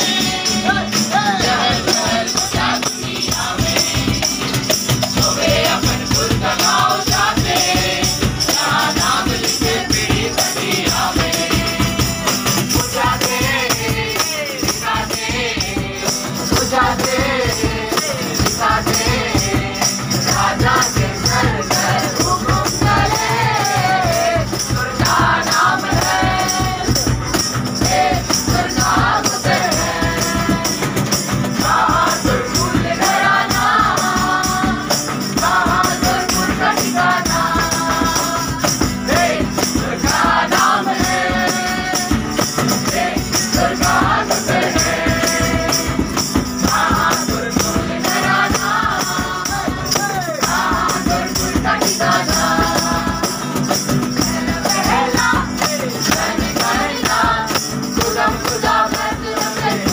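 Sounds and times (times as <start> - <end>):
group singing a carol: 0.0 - 59.9
tambourine jingling: 0.0 - 59.9.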